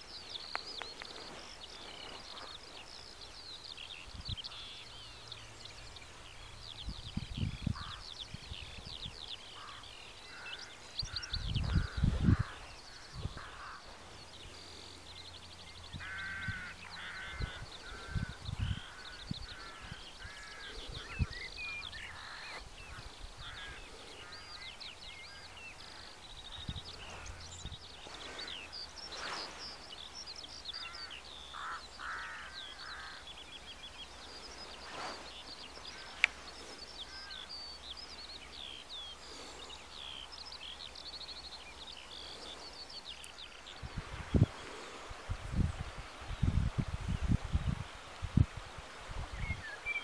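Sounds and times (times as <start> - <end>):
birds chirping and trilling: 0.0 - 50.0.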